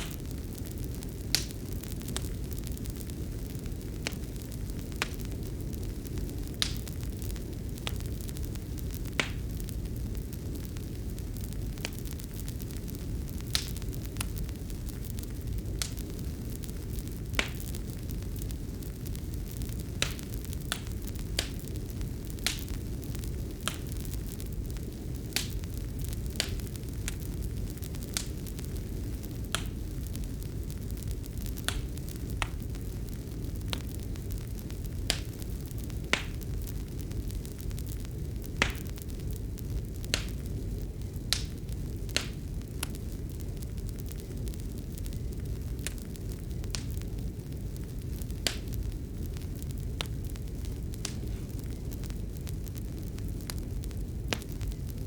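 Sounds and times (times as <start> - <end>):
fire popping and snapping: 0.0 - 55.0
low rumble of burning: 0.0 - 55.0.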